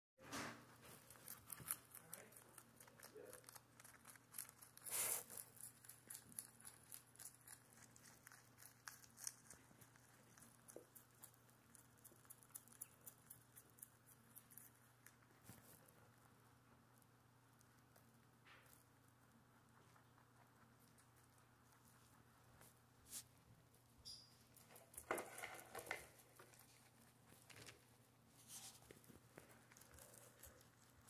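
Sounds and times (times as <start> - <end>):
rabbit chewing leaves: 0.2 - 31.0.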